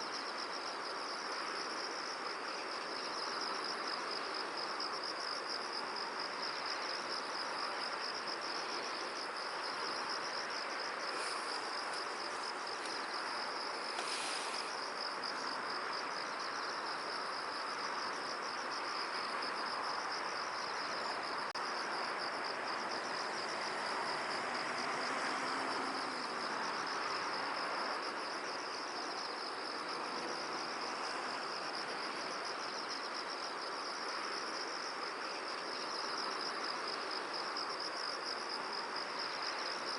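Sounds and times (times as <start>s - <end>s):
wind hiss: 0.0s - 39.9s.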